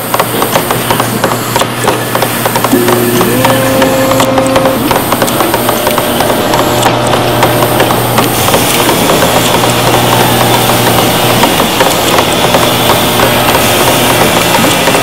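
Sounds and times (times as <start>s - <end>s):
power tool motor hum: 0.0s - 15.0s
small irregular clicks and knocks: 0.0s - 15.0s.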